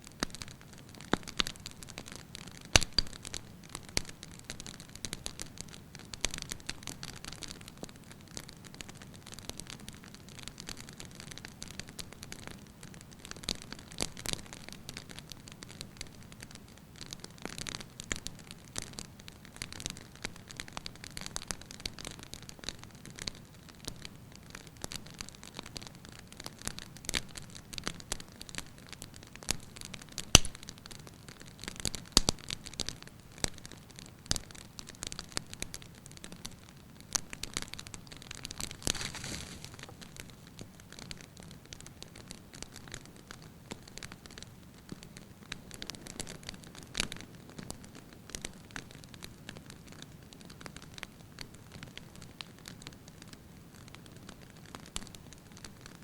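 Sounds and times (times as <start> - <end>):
soft fire hiss: 0.0 - 56.0
wood fire crackling and popping: 0.0 - 56.0.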